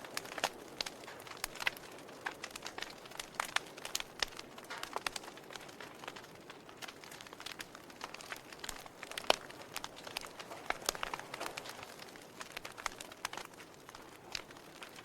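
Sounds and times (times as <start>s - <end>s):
logs crackling and popping: 0.0s - 15.0s
soft fire hiss: 0.0s - 15.0s.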